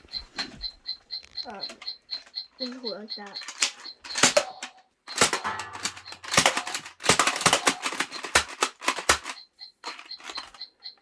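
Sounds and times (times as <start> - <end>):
toy blaster plastic clacks: 1.2 - 11.0.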